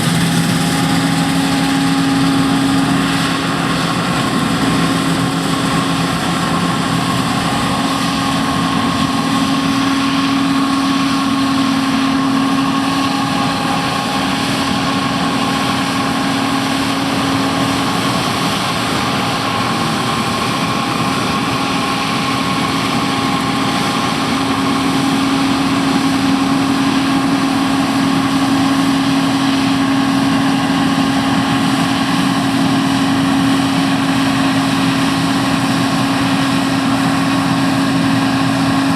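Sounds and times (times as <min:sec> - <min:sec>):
combine harvester droning: 0:00.0 - 0:38.9
high-pitched machinery whine: 0:00.0 - 0:38.9.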